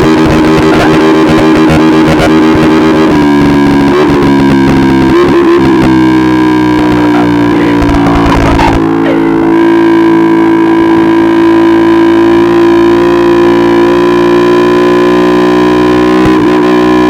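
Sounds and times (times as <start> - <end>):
distorted electric guitar sustained note: 0.0 - 17.0.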